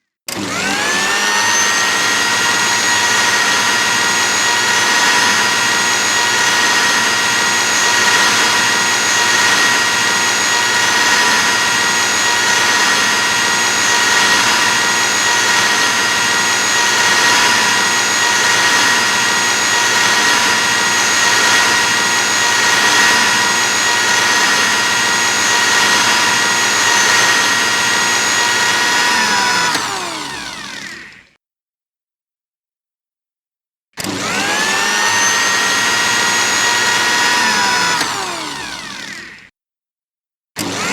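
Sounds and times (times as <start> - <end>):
kitchen blender motor whining: 0.3 - 31.4, 34.0 - 39.5, 40.6 - 40.9.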